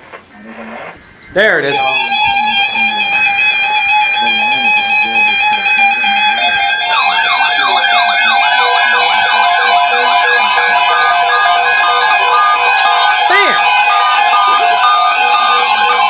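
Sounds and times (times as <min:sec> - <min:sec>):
steady alarm tones: 0:01.7 - 0:16.0
warbling siren-like alarm: 0:01.7 - 0:16.0.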